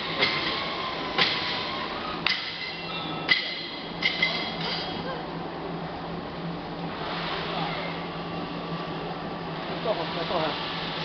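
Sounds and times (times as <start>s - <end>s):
candy pulling machine humming: 0.0s - 11.0s.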